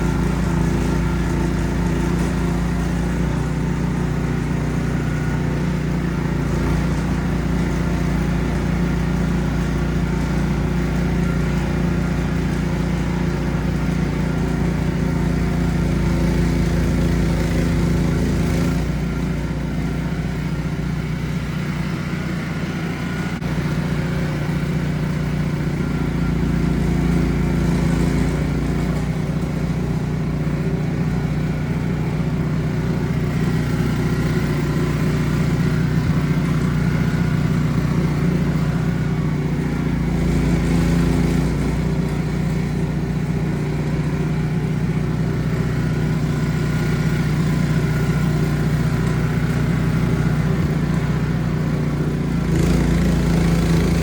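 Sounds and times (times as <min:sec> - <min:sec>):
snow blower engine running: 0:00.0 - 0:54.0.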